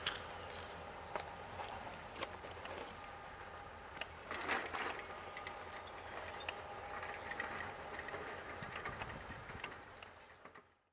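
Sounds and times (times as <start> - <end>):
distant diesel locomotive rumble: 0.0 - 10.8.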